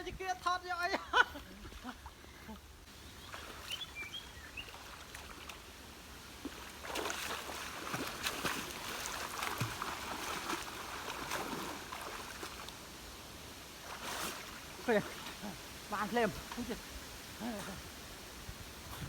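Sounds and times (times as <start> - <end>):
water sloshing and splashing: 1.4 - 19.0.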